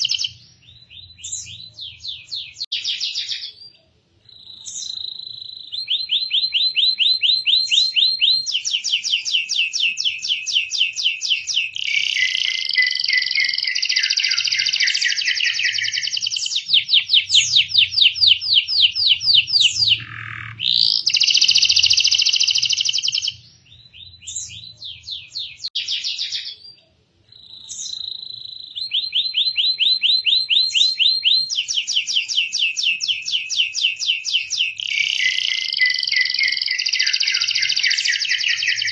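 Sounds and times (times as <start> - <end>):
canary trilling: 0.0 - 3.7, 4.3 - 38.9.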